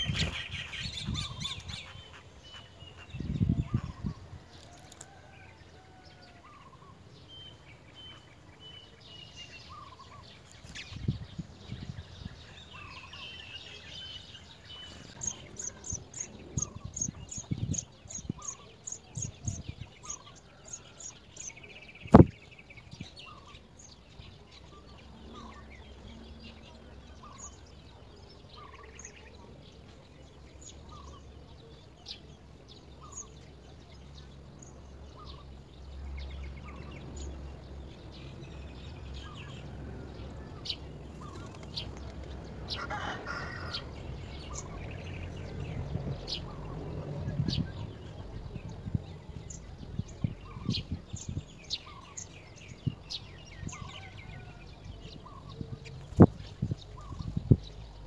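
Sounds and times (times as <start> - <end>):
bird chirping: 0.0 - 4.3, 5.1 - 42.8, 44.0 - 58.0.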